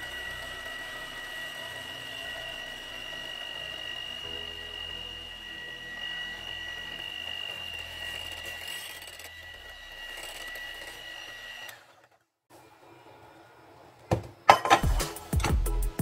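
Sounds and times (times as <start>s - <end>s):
electric hand mixer whining: 0.0s - 15.6s.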